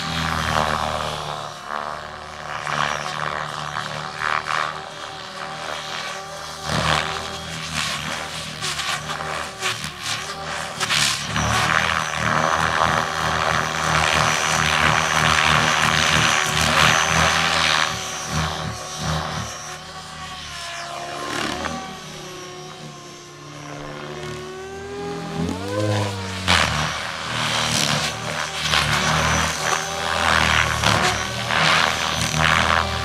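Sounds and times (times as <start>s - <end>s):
electric motor whine: 0.0s - 33.0s
helicopter rotor blades chopping: 0.0s - 33.0s.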